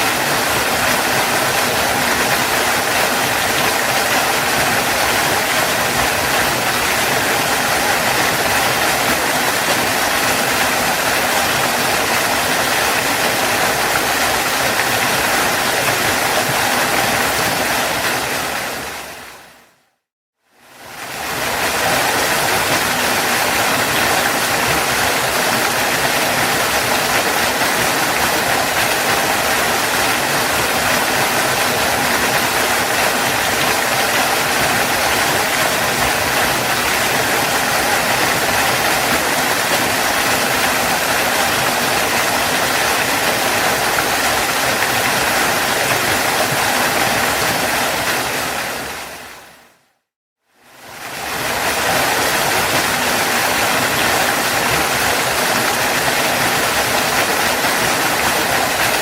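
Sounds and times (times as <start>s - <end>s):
waterfall rushing: 0.0s - 19.7s, 20.6s - 49.7s, 50.8s - 59.0s.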